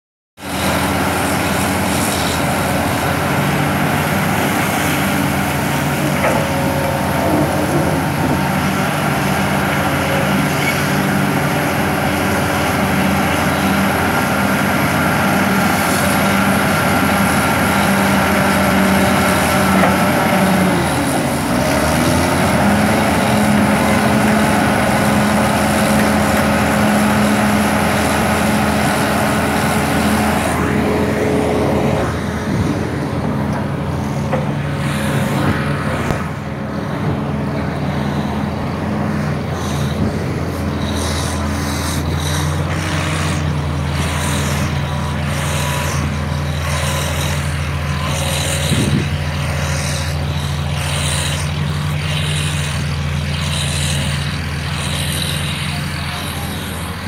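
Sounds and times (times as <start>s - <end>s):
heavy diesel engines droning: 0.4s - 57.0s.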